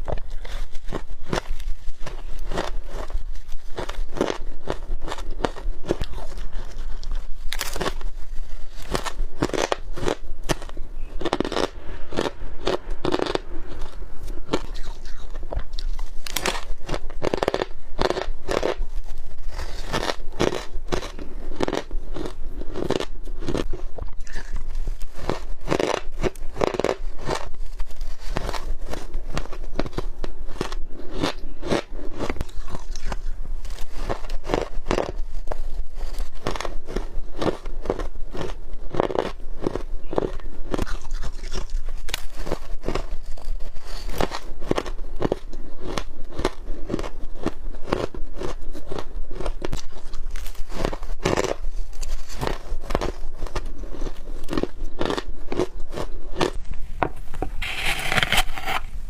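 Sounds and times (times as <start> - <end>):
chewing crunchy ice: 0.0 - 56.7.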